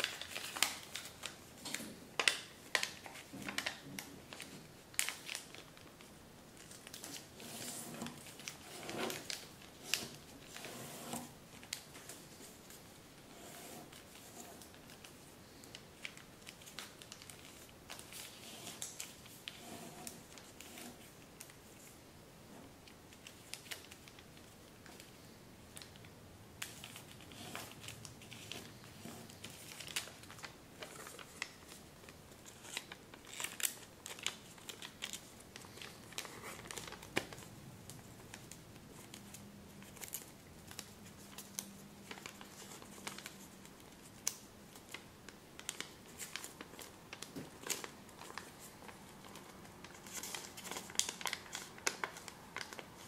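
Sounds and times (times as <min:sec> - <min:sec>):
paper rustling and crinkling: 0:00.0 - 0:22.0, 0:22.8 - 0:53.0.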